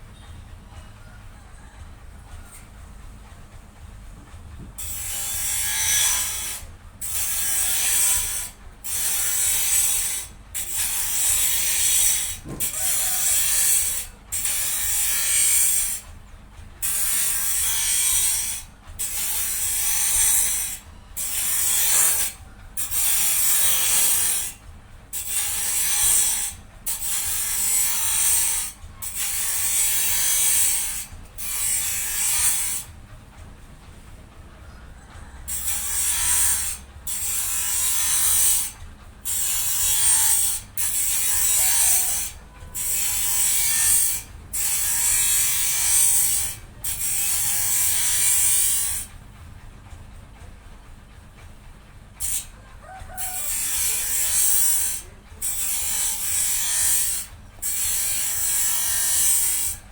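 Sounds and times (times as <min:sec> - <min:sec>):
high mechanical strokes: 0:00.0 - 0:16.2, 0:16.8 - 0:49.4, 0:52.2 - 0:59.9.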